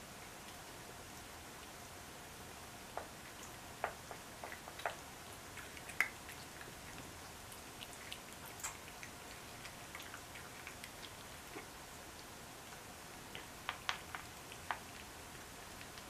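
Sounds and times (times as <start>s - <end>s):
cats chewing and licking: 0.0s - 16.0s.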